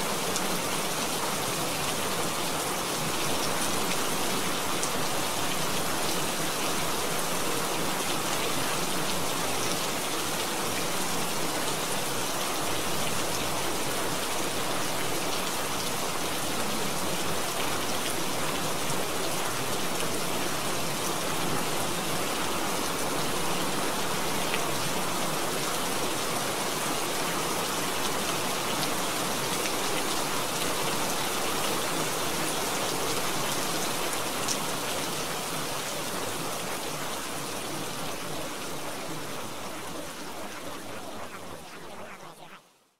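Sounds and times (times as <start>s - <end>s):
steady rain hiss: 0.0s - 42.8s.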